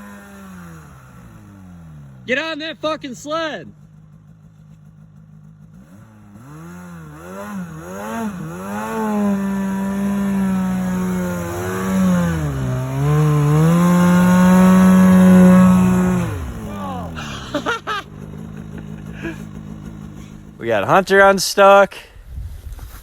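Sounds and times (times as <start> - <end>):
snowmobile engine revving: 0.0 - 22.1.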